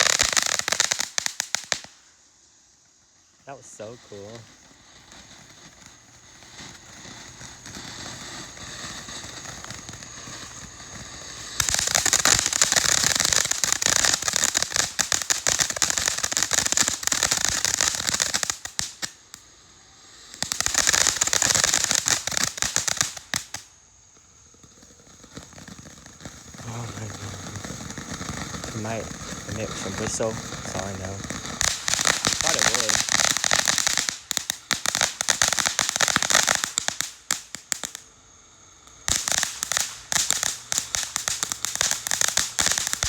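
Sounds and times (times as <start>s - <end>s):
firework hissing and crackling: 0.0s - 43.0s.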